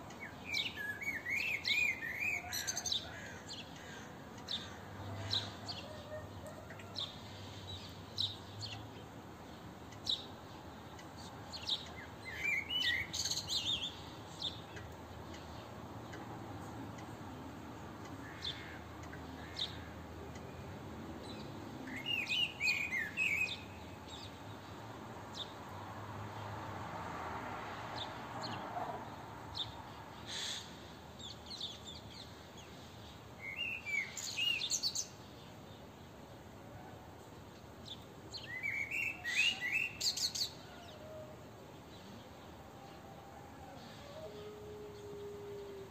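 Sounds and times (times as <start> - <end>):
songbirds chirping: 0.0 - 45.9
steady background hiss: 0.0 - 45.9.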